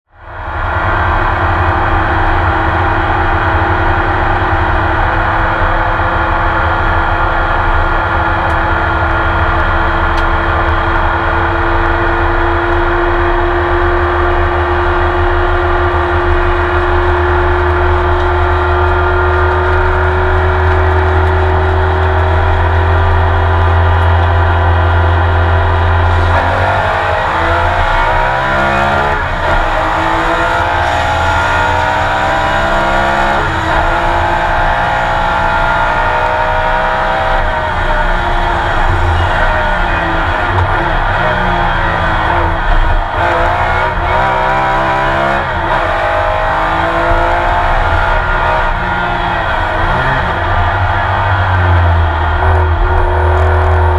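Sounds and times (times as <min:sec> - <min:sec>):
racing engine from inside car: 0:00.3 - 0:53.9.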